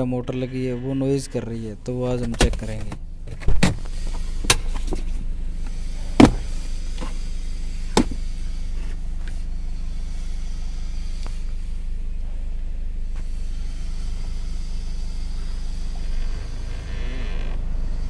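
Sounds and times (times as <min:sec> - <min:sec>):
low cabin hum: 0:00.0 - 0:18.0.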